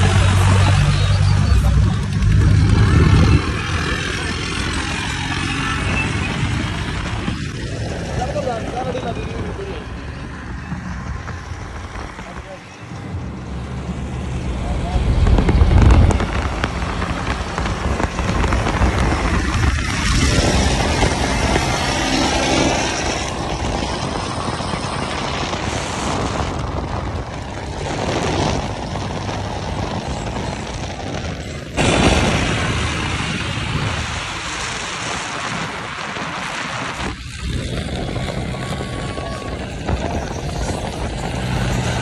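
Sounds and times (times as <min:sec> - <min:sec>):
tractor engines running: 0:00.0 - 0:42.0
wind noise: 0:00.0 - 0:42.0.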